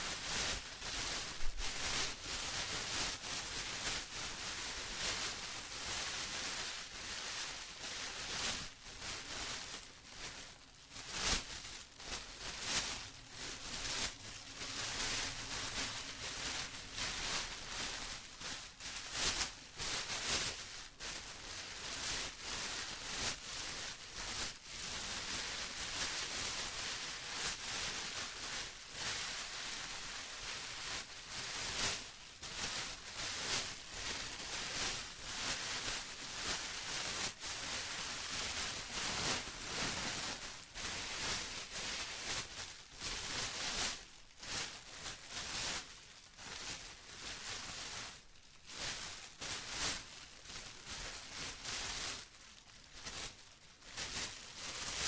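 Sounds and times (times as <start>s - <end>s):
plastic crinkling: 0.0s - 55.0s.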